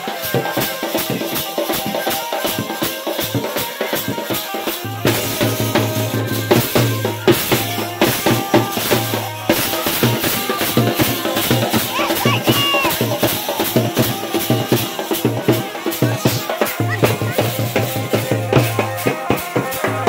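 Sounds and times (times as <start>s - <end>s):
dhol drum beat: 0.0s - 20.0s.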